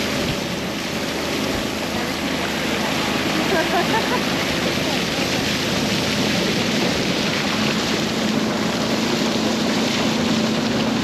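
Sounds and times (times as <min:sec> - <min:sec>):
low motor hum: 0:00.0 - 0:11.0
water rushing: 0:00.0 - 0:11.0
wind noise: 0:00.0 - 0:11.0.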